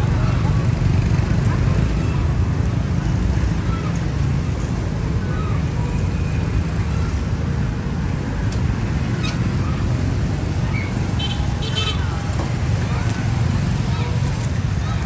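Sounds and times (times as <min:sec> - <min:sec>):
faint voices: 0:00.0 - 0:07.8, 0:09.4 - 0:15.0
passing traffic rumble: 0:00.0 - 0:15.0.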